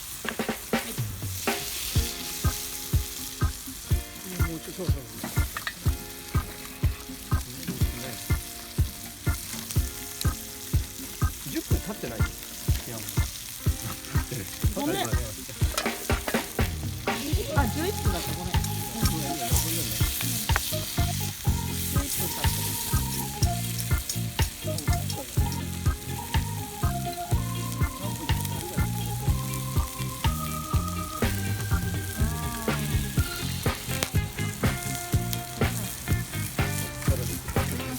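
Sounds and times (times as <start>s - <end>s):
background music with steady beat: 0.0s - 37.9s
food sizzling in a pan: 0.0s - 37.9s
stirring in a pan: 0.0s - 37.9s.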